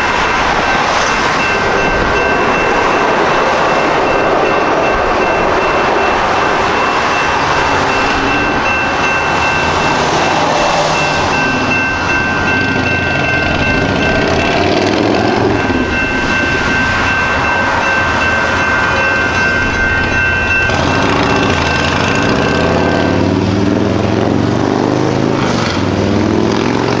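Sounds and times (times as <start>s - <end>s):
car engines pulling away: 0.0s - 27.0s
crossing bells ringing: 0.0s - 27.0s.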